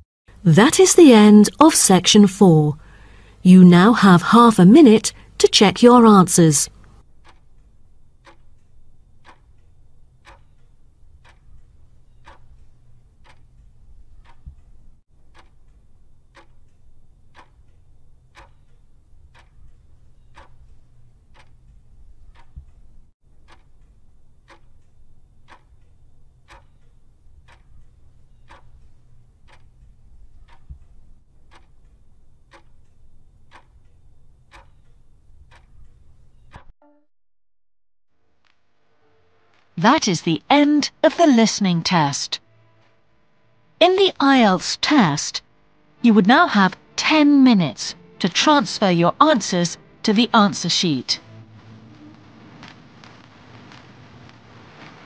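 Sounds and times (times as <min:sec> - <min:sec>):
clock ticking: 0:00.3 - 0:36.7, 0:39.8 - 0:42.4, 0:43.8 - 0:45.4, 0:46.1 - 0:51.3.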